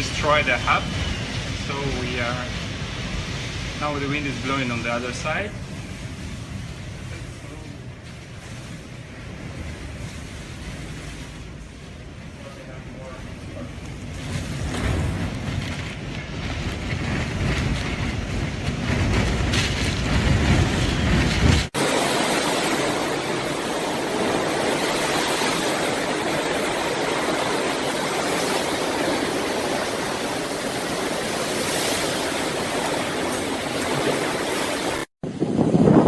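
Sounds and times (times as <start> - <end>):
storm wind rushing: 0.0 - 36.0
wind gusts buffeting microphone: 0.0 - 36.0.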